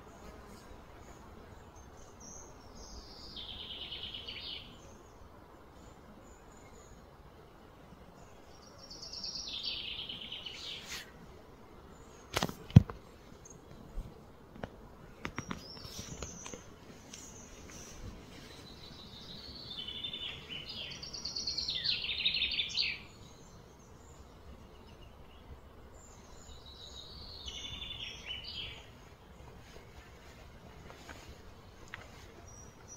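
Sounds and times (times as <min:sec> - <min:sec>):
steady outdoor hiss: 0:00.0 - 0:32.9.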